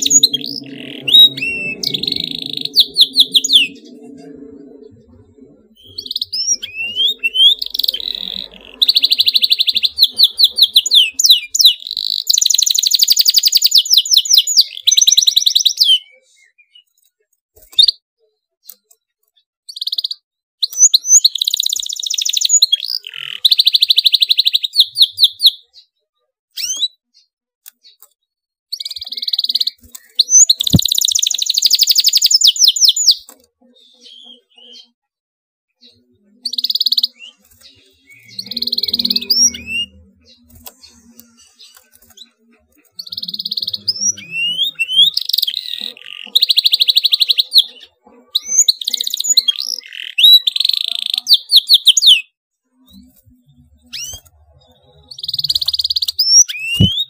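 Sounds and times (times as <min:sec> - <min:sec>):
canary singing rolling trills: 0:00.0 - 0:17.0, 0:18.6 - 0:35.1, 0:35.7 - 0:57.0.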